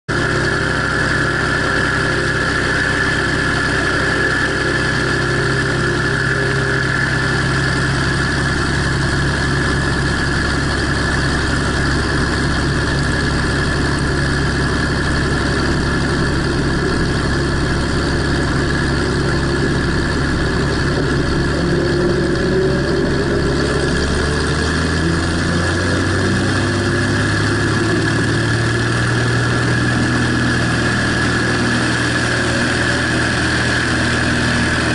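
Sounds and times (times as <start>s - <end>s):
light airplane engine and propeller: 0.1s - 34.9s.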